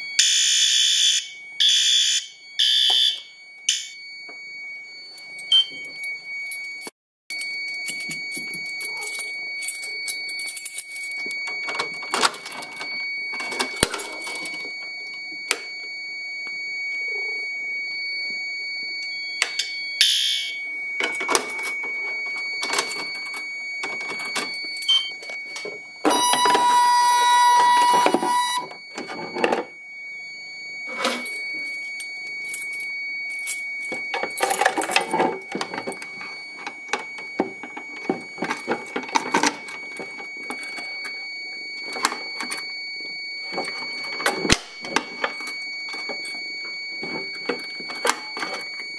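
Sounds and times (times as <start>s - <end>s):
high electronic alarm tone: 0.0s - 48.9s
lower alarm tone: 0.0s - 48.9s.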